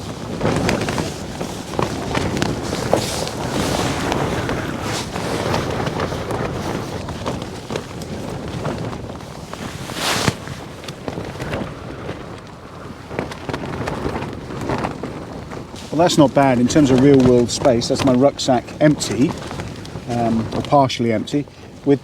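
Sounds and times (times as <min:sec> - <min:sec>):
tent fabric rustling and snapping: 0:00.0 - 0:22.0
wind buffeting microphone: 0:00.0 - 0:22.0.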